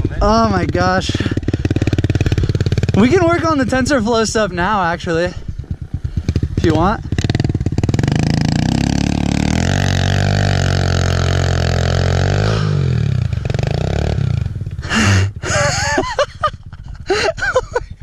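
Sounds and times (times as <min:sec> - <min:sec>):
motorcycle engine revving: 0:00.0 - 0:04.6, 0:05.3 - 0:17.3.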